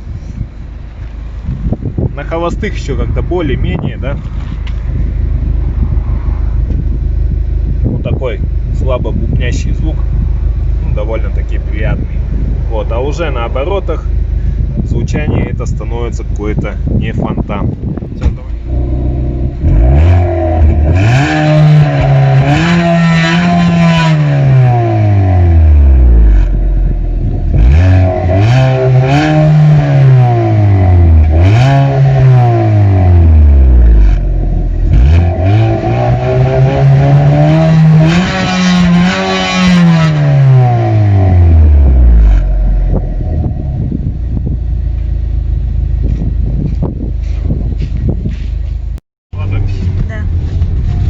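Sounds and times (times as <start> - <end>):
rattly exhaust: 0.0 - 51.0
car engine revving and idling: 0.1 - 51.0.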